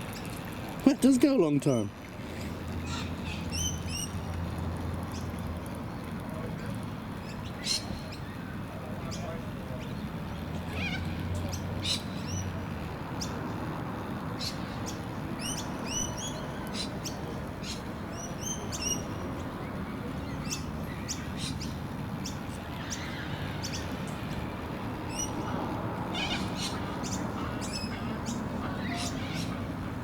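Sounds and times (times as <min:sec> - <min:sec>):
low background noise: 0:00.0 - 0:30.0
small birds chirping: 0:02.7 - 0:30.0.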